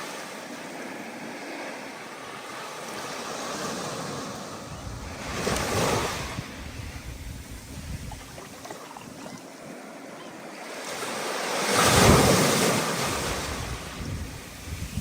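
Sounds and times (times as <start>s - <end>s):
ocean wave breaking: 0.0s - 15.0s
wind: 0.0s - 15.0s.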